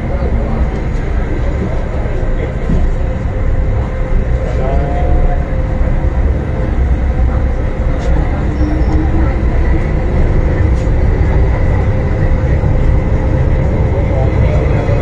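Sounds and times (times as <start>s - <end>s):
train motors and wheels rumbling: 0.0s - 15.0s.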